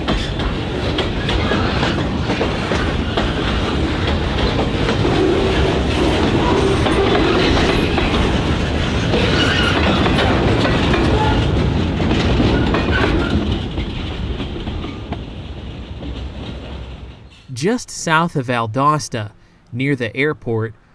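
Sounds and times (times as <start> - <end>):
wheels clacking over rail joints: 0.0 - 17.5
freight train cars rolling: 0.0 - 19.4.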